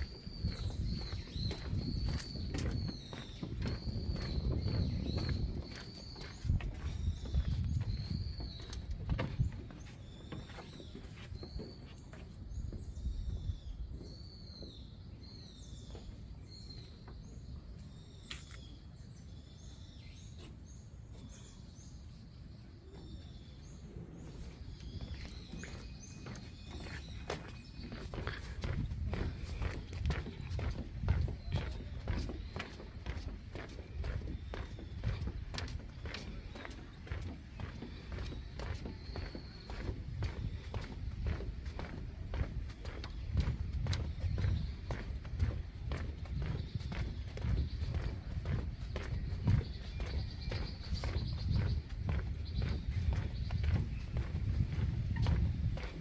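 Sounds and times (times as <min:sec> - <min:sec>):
footsteps on wooden deck: 0:00.0 - 0:56.0
small birds chirping: 0:00.0 - 0:56.0.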